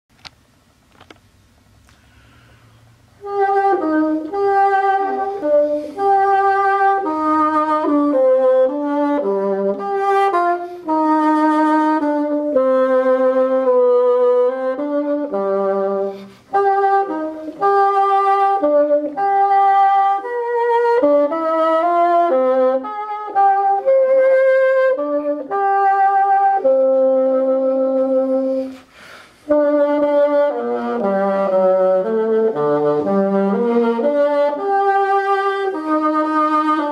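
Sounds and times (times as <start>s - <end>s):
bassoon melody: 3.0s - 36.9s.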